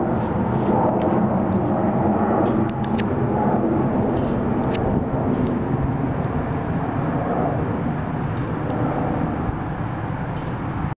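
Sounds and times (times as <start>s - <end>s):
jet airliner passing overhead: 0.0s - 10.9s.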